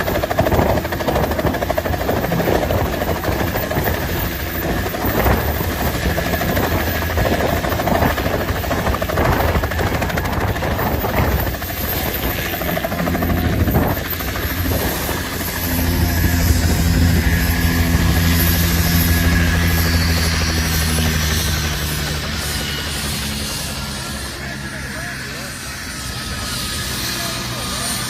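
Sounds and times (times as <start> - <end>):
helicopter turbine and rotor: 0.0 - 28.0.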